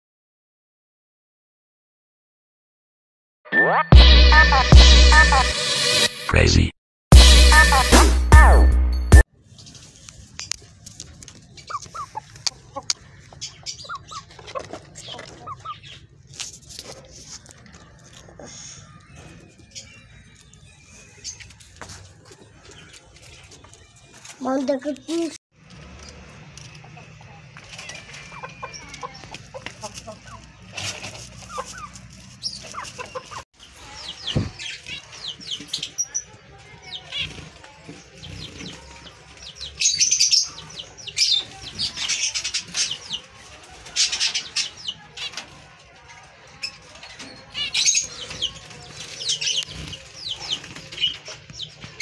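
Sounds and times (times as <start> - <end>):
lovebirds chirping: 9.4 - 45.4, 46.4 - 52.0
chickens clucking: 9.5 - 24.3, 25.1 - 52.0.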